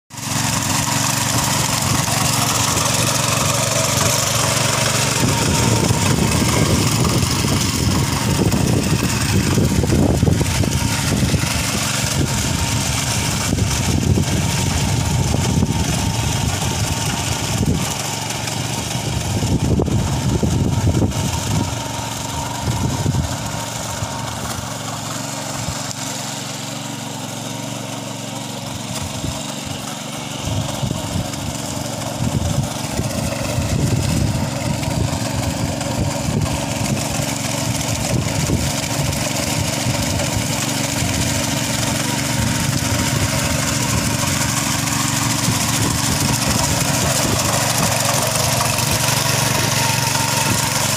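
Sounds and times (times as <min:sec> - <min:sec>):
power tiller engine running: 0:00.1 - 0:50.9.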